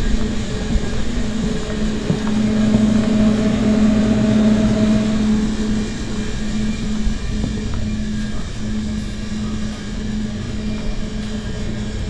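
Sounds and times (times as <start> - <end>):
refrigerated display case hum: 0.0 - 12.0
higher machine tone: 0.5 - 12.0.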